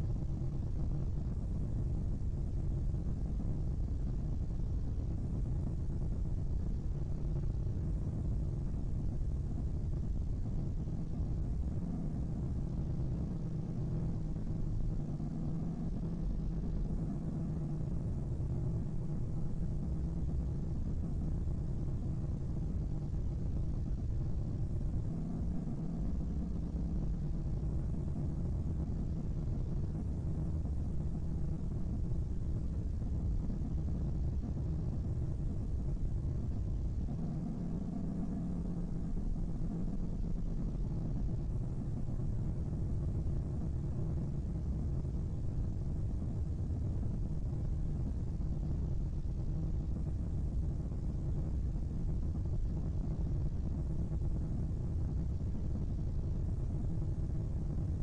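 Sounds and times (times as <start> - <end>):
low rumbling drone: 4.2 - 58.0.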